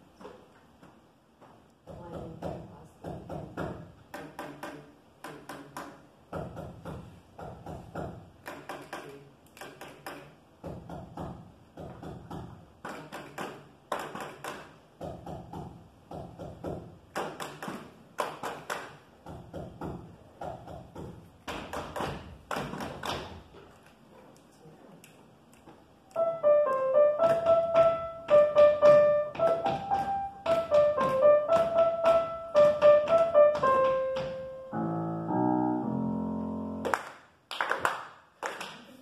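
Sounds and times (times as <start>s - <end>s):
rhythmic hand claps and taps: 1.9s - 23.5s, 25.5s - 34.5s, 36.8s - 38.9s.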